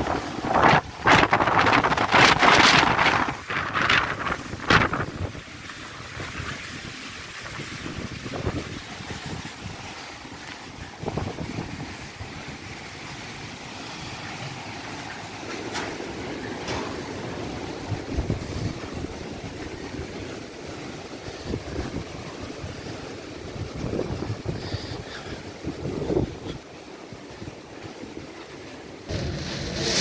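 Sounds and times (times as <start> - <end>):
wind gusting on microphone: 0.0 - 13.6, 14.3 - 28.3.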